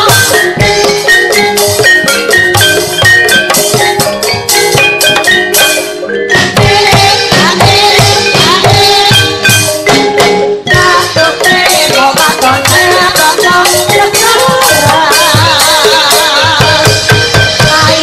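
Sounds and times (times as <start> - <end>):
tuned metal keys pattern: 0.0 - 14.8.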